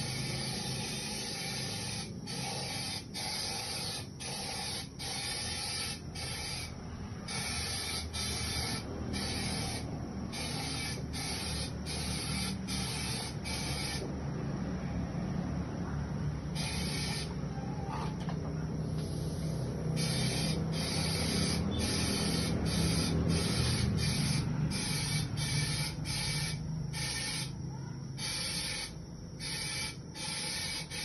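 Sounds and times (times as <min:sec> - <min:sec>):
spray gun hissing: 0:00.0 - 0:14.1, 0:16.5 - 0:17.4, 0:18.8 - 0:27.6, 0:28.2 - 0:31.0.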